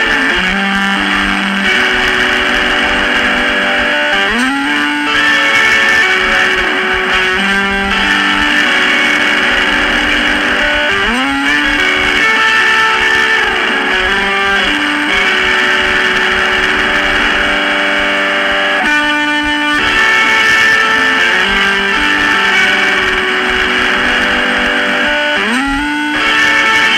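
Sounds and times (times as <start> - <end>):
lo-fi electric guitar music: 0.0 - 26.9.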